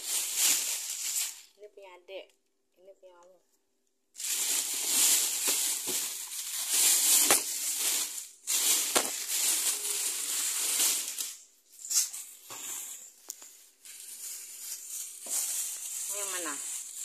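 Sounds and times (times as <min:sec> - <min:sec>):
plastic bag crinkling: 0:00.0 - 0:01.6, 0:04.2 - 0:17.0.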